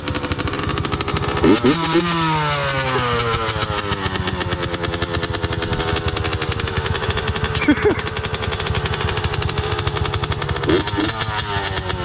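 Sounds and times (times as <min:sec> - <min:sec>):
two-stroke dirt bike engine revving: 0:00.0 - 0:12.0.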